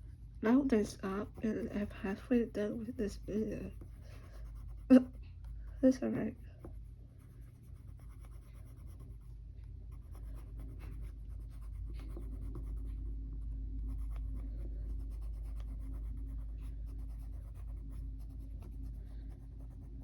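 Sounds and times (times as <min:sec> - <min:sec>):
low steady hum: 0:00.0 - 0:20.0
colored pencil scratching paper: 0:00.1 - 0:20.0.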